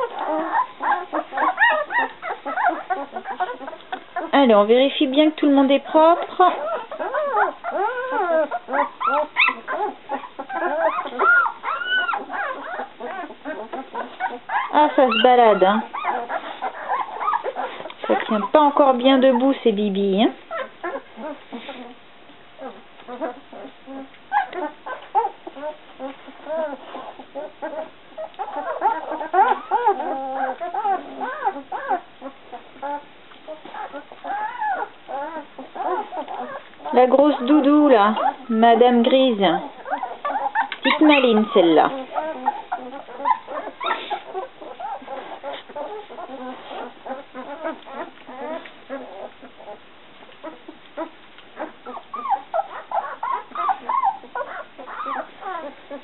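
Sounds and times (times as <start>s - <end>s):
puppies whimpering and squealing: 0.0s - 56.0s.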